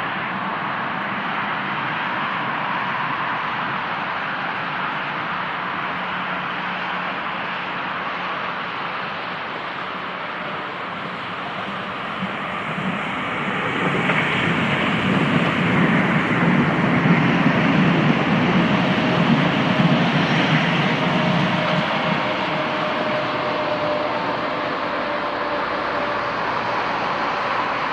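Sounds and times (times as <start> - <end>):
electric train rumbling on track: 0.0 - 27.9.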